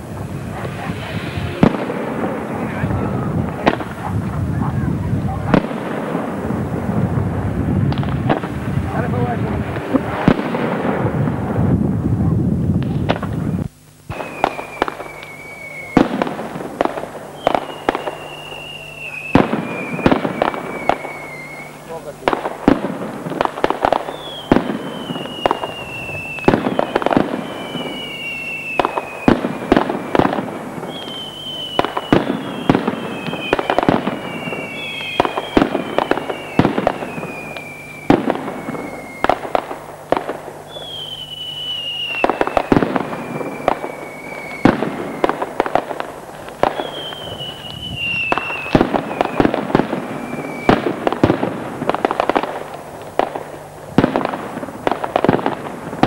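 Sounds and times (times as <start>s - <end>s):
firecrackers banging: 0.0s - 56.0s
whistling fireworks: 0.0s - 56.0s.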